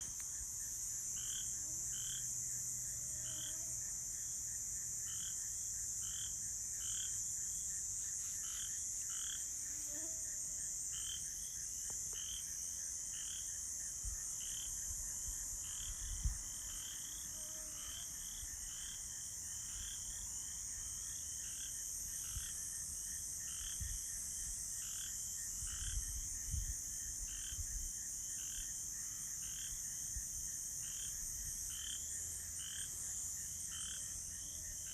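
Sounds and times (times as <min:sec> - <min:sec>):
crickets trilling: 0:00.0 - 0:34.9.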